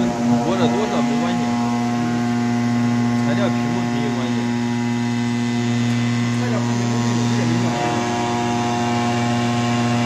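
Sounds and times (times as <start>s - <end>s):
electric spindle motor humming: 0.0s - 10.0s.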